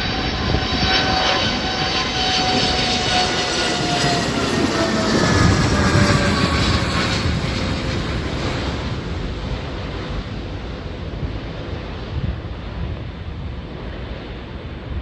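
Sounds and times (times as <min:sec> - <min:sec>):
passenger jet passing overhead: 0:00.0 - 0:15.0
wind buffeting microphone: 0:00.0 - 0:15.0.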